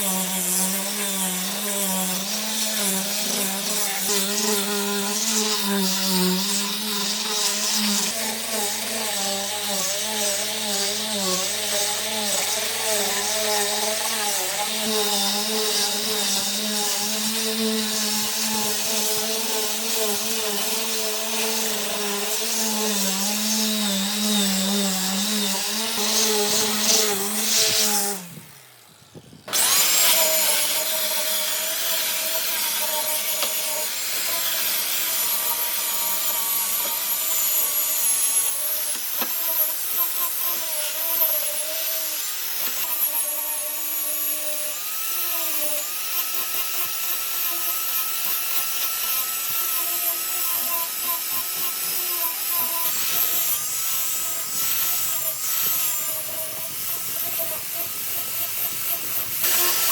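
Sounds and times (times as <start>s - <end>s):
power tool motor whining: 0.0s - 59.9s.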